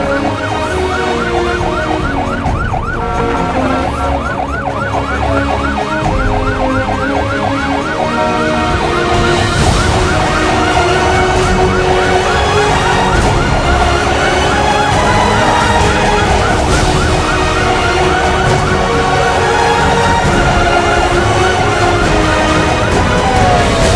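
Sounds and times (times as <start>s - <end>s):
fire engine siren yelping: 0.0s - 23.9s.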